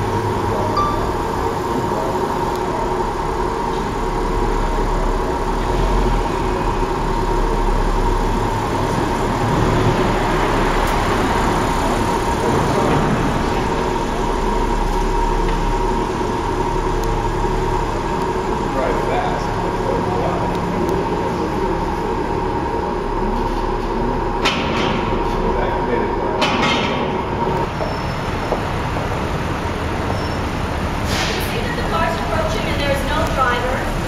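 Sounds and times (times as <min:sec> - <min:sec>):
car engine idling: 0:00.0 - 0:34.0
steady hum: 0:00.0 - 0:34.0.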